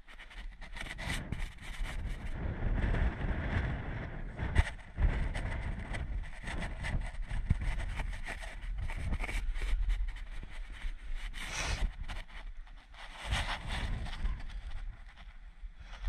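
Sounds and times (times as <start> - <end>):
wind rumble on microphone: 0.0 - 16.0
scuffs and scrapes on rock: 0.2 - 2.5, 4.4 - 16.0.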